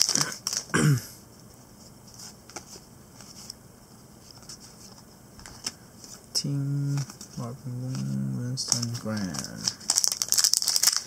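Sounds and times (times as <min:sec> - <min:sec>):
trading cards rustling and ticking: 0:00.0 - 0:00.8, 0:01.4 - 0:03.6, 0:04.2 - 0:11.0.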